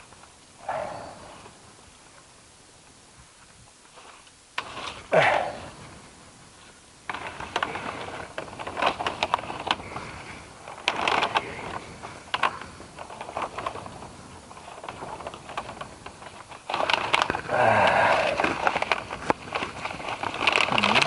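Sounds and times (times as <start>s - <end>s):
dry branches rustling and crackling: 0.0s - 21.0s.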